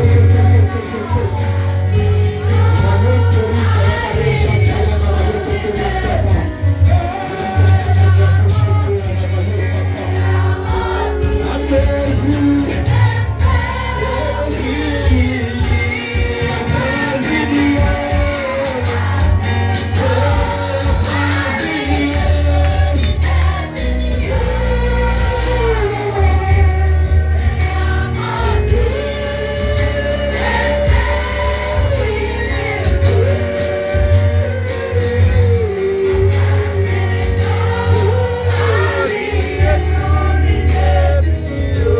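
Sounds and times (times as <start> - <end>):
band with heavy bass: 0.0 - 41.9
group singing gospel: 0.0 - 41.9.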